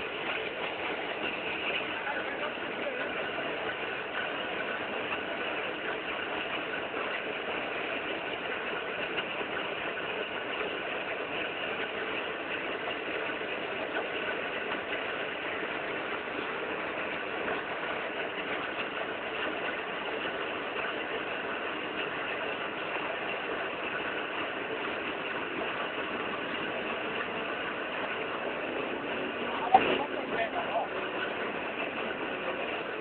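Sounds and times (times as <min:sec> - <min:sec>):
boat engines droning: 0:00.0 - 0:33.0.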